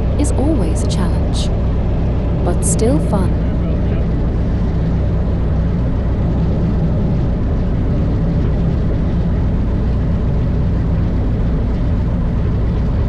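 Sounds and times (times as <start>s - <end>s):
propeller plane engine running: 0.0s - 13.0s.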